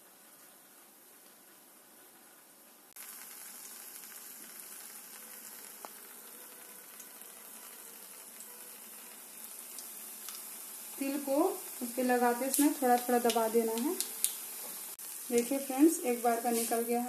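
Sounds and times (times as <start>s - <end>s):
dough sizzling in hot oil: 0.0s - 17.0s.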